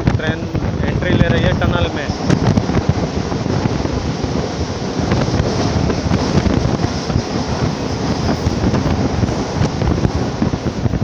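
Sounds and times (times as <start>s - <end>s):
train wheels rumbling on rails: 0.0s - 11.0s
wind rushing on microphone: 0.0s - 11.0s.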